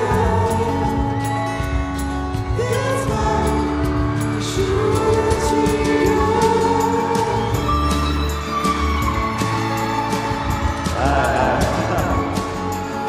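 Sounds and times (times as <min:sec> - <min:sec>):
person singing: 0:00.0 - 0:01.4, 0:02.4 - 0:13.0
drums and cymbals: 0:00.0 - 0:13.0
live pop ballad band: 0:00.0 - 0:13.0.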